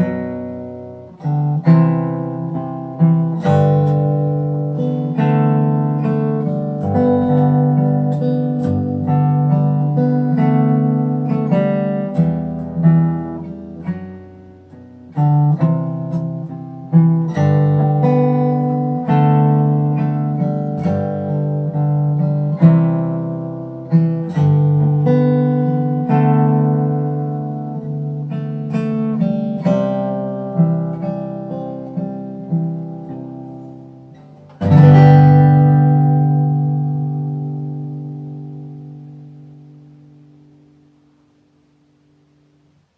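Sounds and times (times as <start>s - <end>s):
acoustic guitar playing chords: 0.0s - 42.9s.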